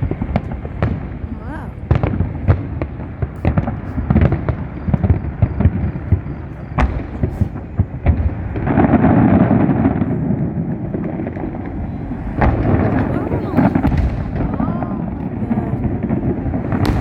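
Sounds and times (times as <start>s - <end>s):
fireworks booming bangs: 0.0s - 17.0s
fireworks rumbling crackle: 0.0s - 17.0s.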